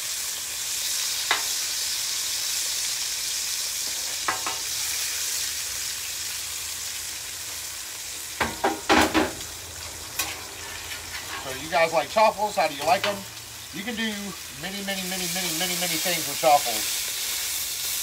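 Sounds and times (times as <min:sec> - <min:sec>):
bacon sizzling on griddle: 0:00.0 - 0:18.0.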